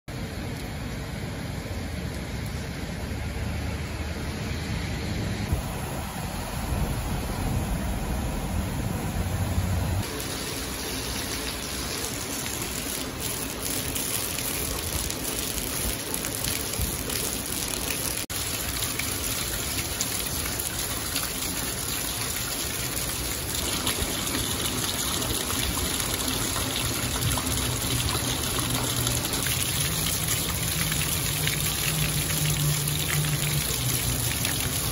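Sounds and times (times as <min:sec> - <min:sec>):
heavy rain pouring: 0:05.5 - 0:34.9
water gushing from downspouts: 0:05.5 - 0:34.9.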